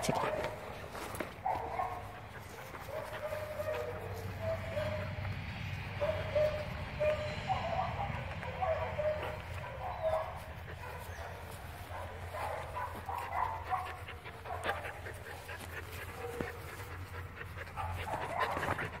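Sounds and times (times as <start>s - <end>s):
dog panting: 0.0s - 19.0s.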